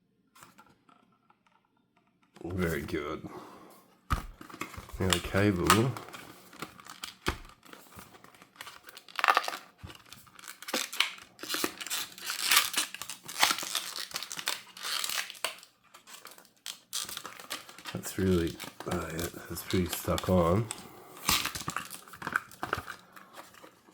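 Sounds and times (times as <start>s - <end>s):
packaging crinkling and tearing: 4.2s - 23.9s.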